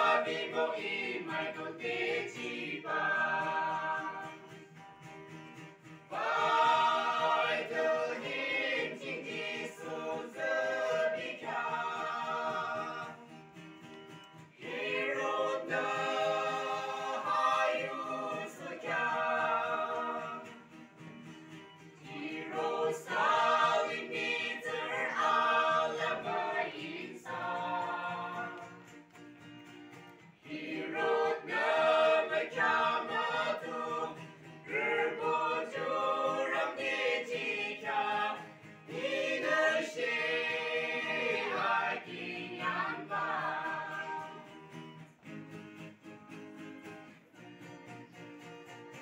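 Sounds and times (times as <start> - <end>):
vocal group singing gospel: 0.0 - 4.6, 6.0 - 13.5, 14.5 - 20.8, 22.0 - 28.9, 30.4 - 44.8.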